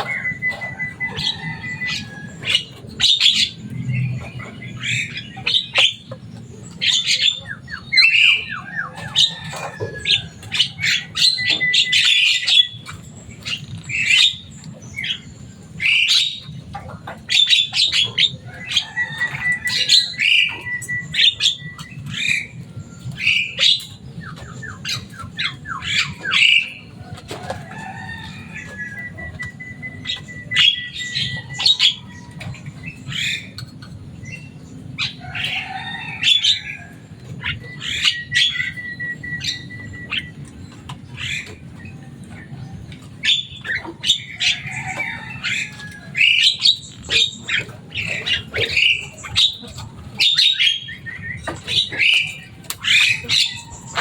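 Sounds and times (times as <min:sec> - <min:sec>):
myna squawking and clicking: 0:00.0 - 0:54.0.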